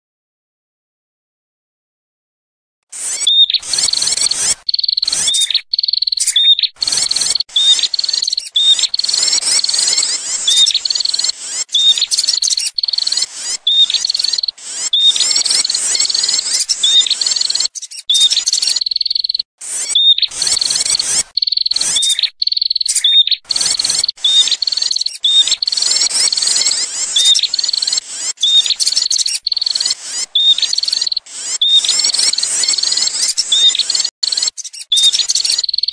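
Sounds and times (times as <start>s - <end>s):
bird chirping and chattering: 3.0s - 35.9s.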